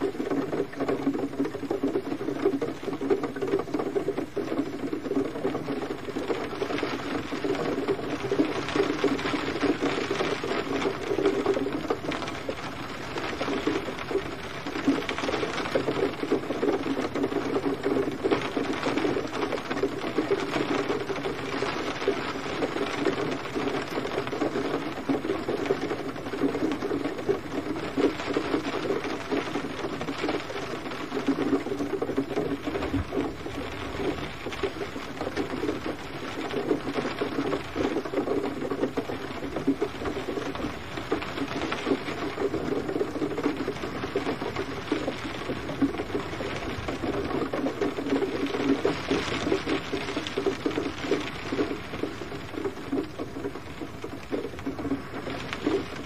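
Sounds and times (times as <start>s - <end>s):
gentle rain pattering: 0.0s - 56.0s.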